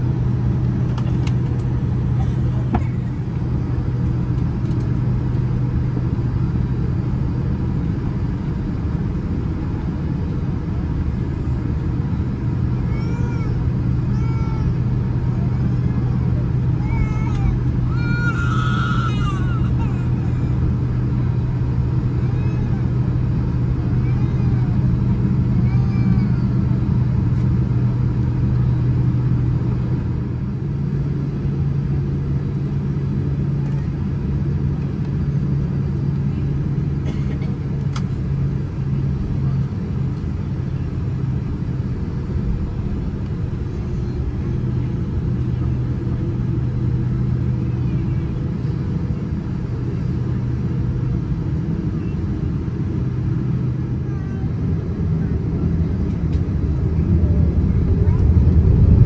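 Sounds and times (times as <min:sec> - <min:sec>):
airliner engines rumbling: 0:00.0 - 0:59.0
steady low hum: 0:00.0 - 0:59.0.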